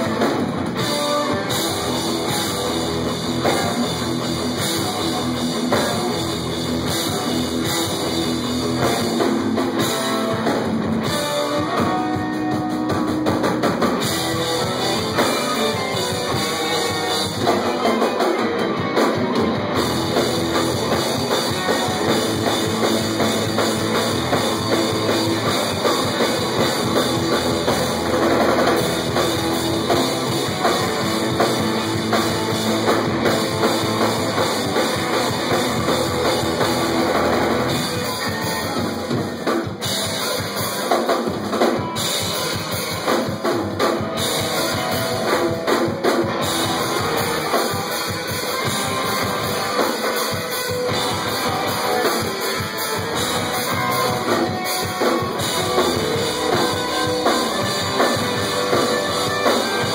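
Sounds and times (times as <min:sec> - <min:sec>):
bass guitar: 0:00.0 - 0:59.9
distorted electric guitars: 0:00.0 - 0:59.9
drum kit beat: 0:00.0 - 0:59.9.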